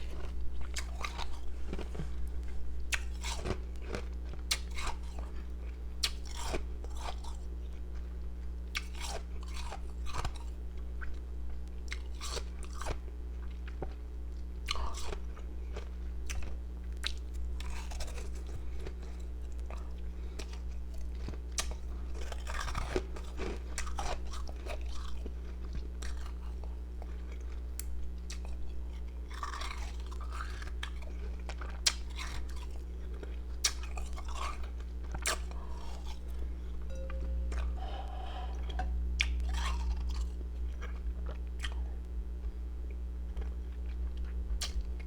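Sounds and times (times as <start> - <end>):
person chewing ice crunching: 0.0 - 11.2, 11.9 - 42.6, 43.3 - 44.9.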